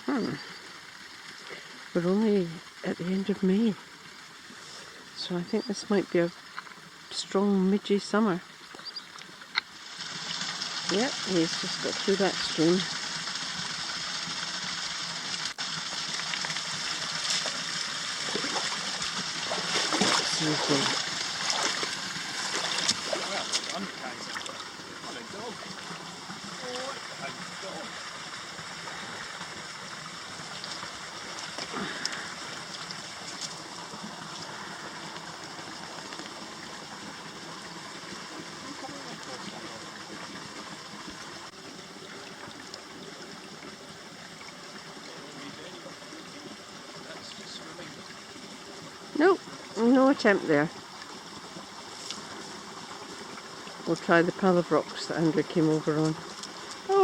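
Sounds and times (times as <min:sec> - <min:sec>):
stream rushing over stones: 0:00.0 - 0:57.0.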